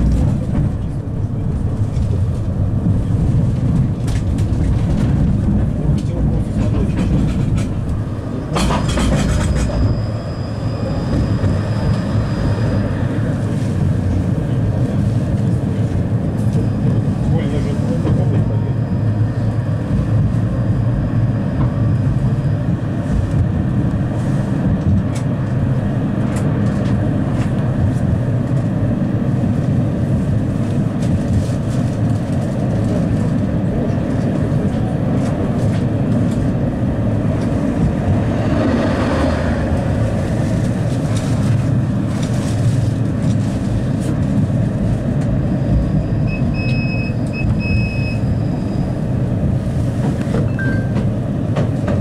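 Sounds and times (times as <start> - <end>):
tram wheels rumbling on rails: 0.0 - 52.0.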